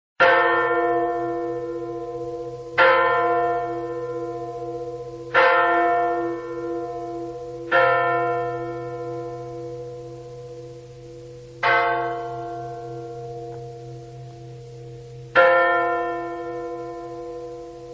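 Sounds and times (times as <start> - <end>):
large bell tolling: 0.2 - 17.9.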